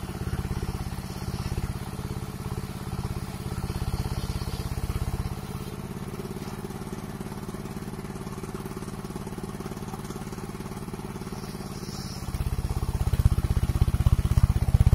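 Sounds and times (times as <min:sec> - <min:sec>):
sawmill engine running: 0:00.0 - 0:14.9.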